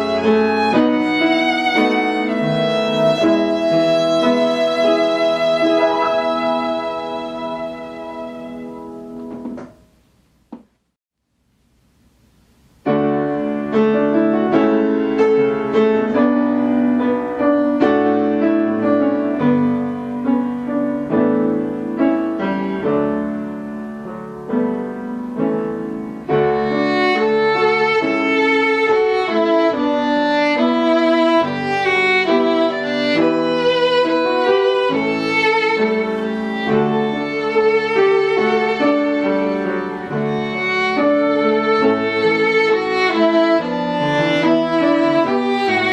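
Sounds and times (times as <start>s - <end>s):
violin melody: 0.0s - 9.6s, 13.3s - 23.8s, 26.0s - 45.9s
keyboard accompaniment: 0.0s - 10.0s, 12.8s - 45.9s.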